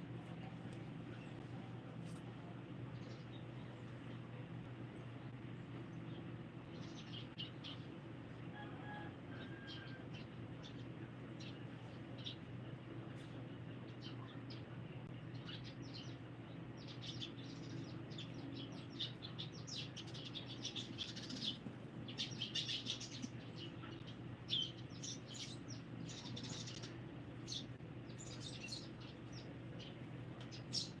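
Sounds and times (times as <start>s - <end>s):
steady low hum: 0.0s - 31.0s
small birds chirping: 0.1s - 8.1s, 9.3s - 31.0s.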